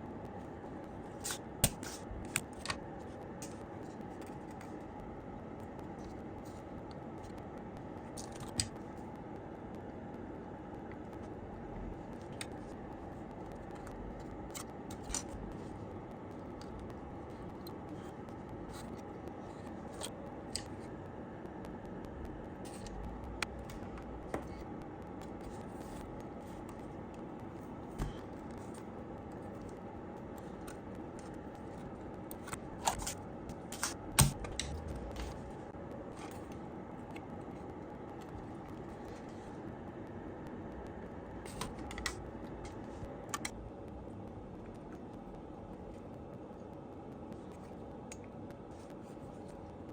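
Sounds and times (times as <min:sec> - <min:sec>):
low background hum: 0:00.0 - 0:49.9.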